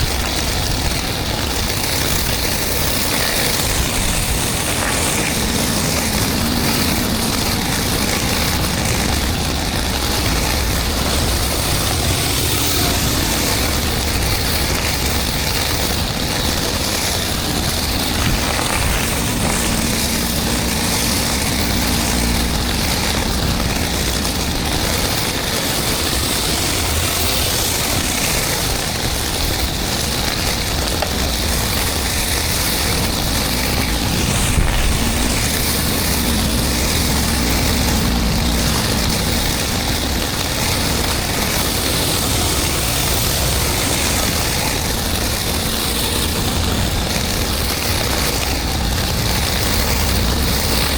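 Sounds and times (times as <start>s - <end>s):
pressure washer engine hum: 0.0s - 50.9s
water spraying onto concrete: 0.0s - 50.9s.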